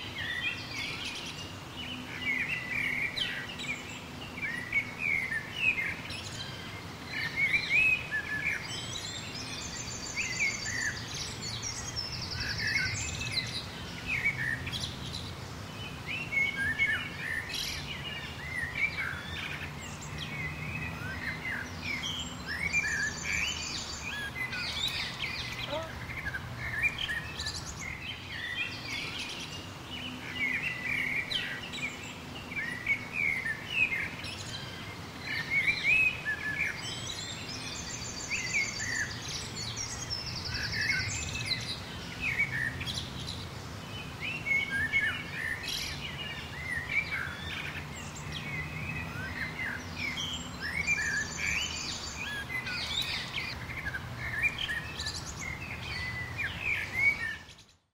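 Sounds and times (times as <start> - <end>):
songbirds chirping and singing: 0.0 - 57.9.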